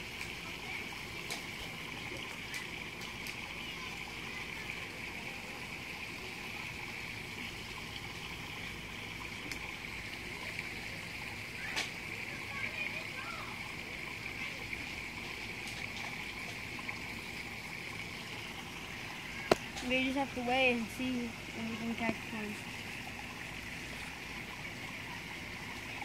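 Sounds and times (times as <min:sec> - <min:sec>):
stream water flowing: 0:00.0 - 0:26.0.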